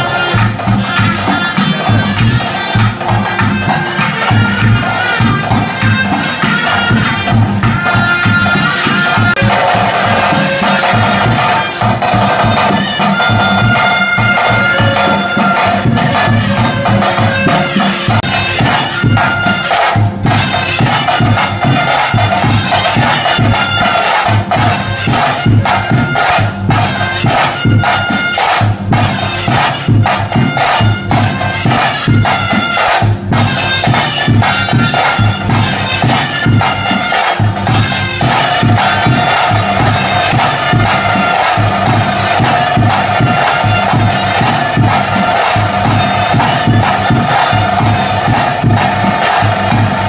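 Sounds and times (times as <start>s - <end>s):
quick steady drumming: 0.0s - 50.0s
shrill double-reed pipe: 0.0s - 50.0s.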